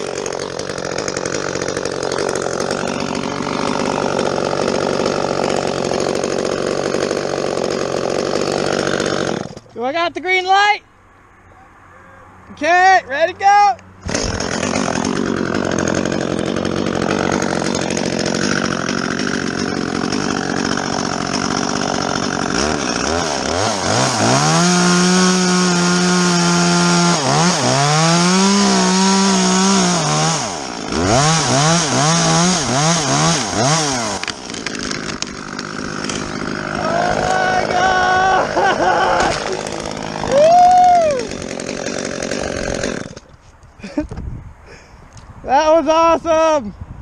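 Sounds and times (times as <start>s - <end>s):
chainsaw cutting and revving: 0.0s - 9.8s, 14.0s - 44.0s.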